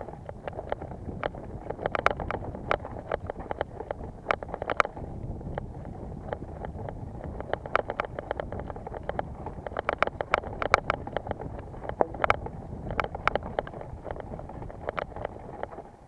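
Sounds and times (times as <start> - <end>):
mountain bike rattling: 0.0 - 16.0
wind and tyre rumble: 0.0 - 16.0.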